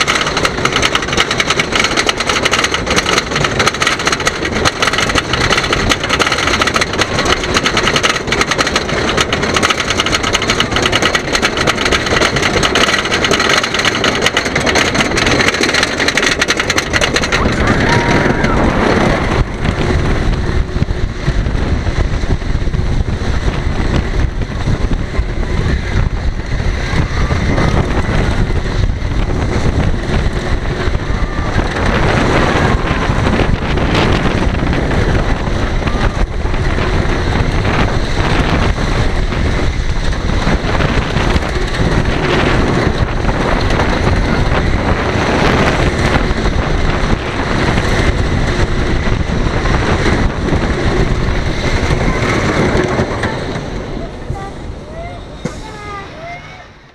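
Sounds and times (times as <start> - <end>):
roller coaster rattling on wooden track: 0.0 - 56.9
wind buffeting microphone: 0.0 - 56.9.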